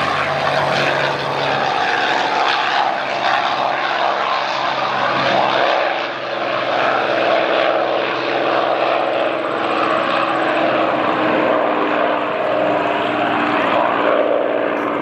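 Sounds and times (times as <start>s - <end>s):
airplane engines droning: 0.0s - 15.0s.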